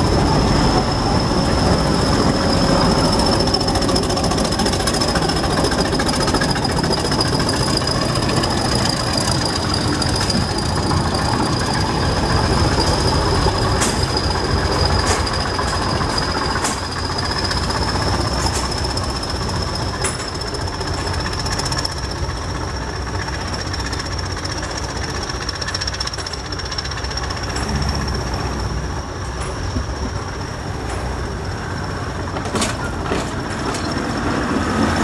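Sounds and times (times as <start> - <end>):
low train rumble: 0.0 - 35.0
train wheels squealing: 0.0 - 35.0.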